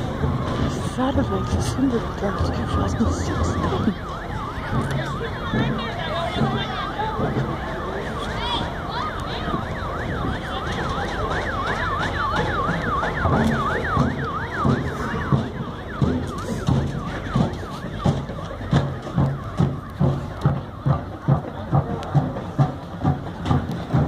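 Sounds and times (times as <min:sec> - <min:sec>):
emergency siren yelping: 0:00.0 - 0:24.0.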